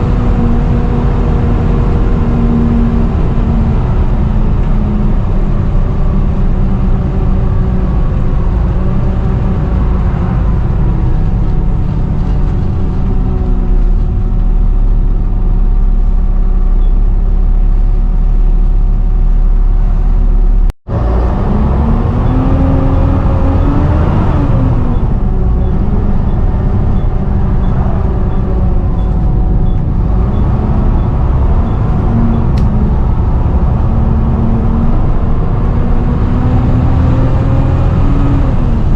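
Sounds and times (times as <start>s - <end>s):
bus diesel engine whining: 0.0s - 38.9s.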